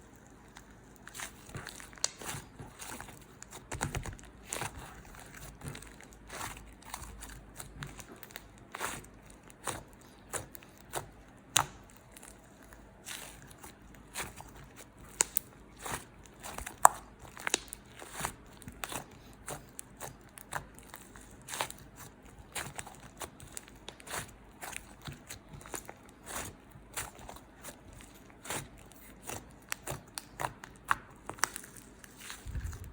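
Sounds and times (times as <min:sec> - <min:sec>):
slime squished by hand: 0:00.1 - 0:32.9.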